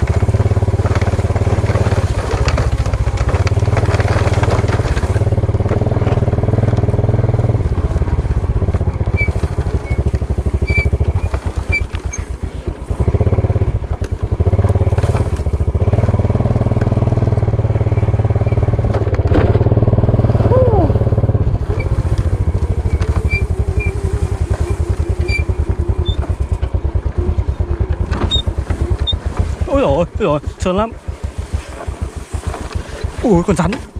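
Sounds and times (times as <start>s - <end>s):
small motorcycle engine running: 0.0s - 33.9s.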